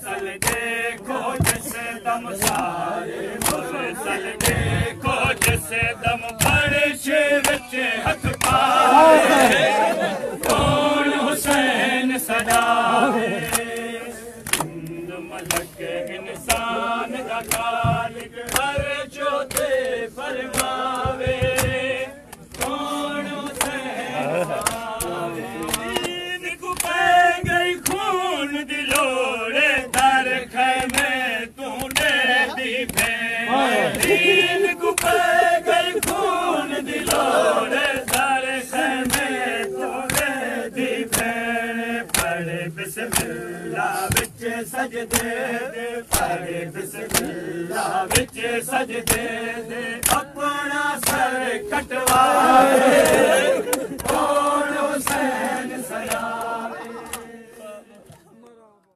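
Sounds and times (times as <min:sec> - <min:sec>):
men chanting a lament: 0:00.0 - 0:58.9.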